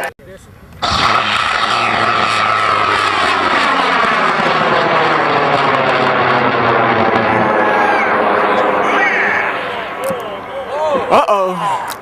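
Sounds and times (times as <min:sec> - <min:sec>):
rocket motor rushing roar: 0:00.6 - 0:11.2.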